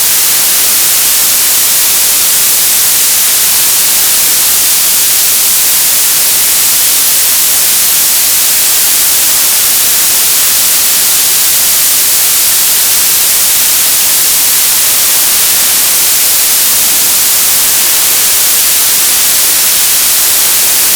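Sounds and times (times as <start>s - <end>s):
television static hiss: 0.0s - 20.9s.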